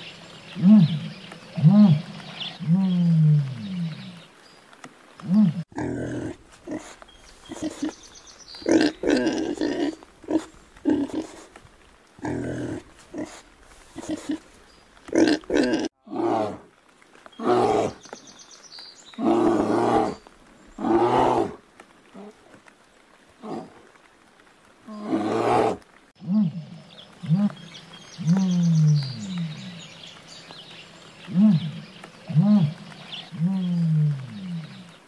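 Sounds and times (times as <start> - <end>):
animal calls and grunts: 0.5 - 4.3, 5.2 - 11.6, 12.2 - 18.2, 19.1 - 22.7, 23.4 - 24.0, 24.8 - 35.0.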